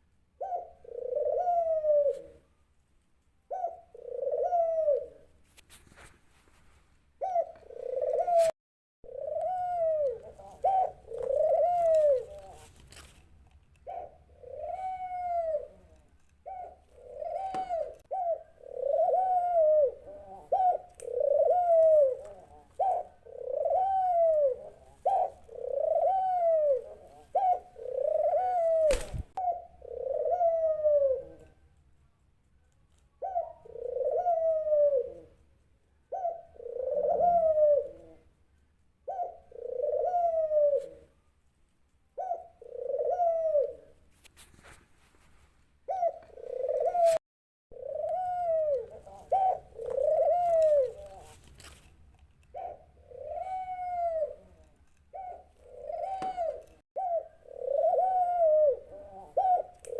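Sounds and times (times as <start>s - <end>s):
dove cooing: 0.4s - 2.5s, 3.5s - 5.3s, 7.2s - 13.1s, 13.8s - 31.6s, 33.1s - 35.5s, 36.1s - 38.4s, 39.0s - 41.2s, 42.1s - 44.0s, 45.9s - 51.5s, 52.5s - 59.9s.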